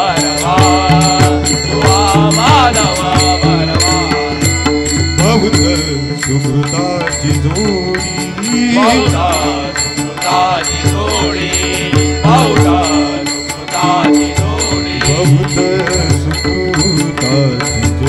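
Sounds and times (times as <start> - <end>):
hand drums beating: 0.0 - 18.0
harmonium notes: 0.0 - 18.0
man singing devotional song: 0.0 - 18.0.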